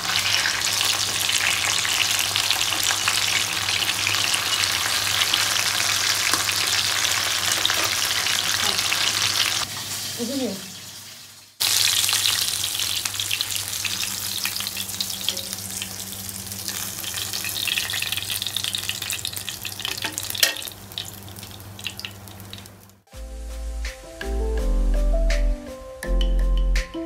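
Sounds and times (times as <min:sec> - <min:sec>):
fish sizzling in oil: 0:00.0 - 0:23.1.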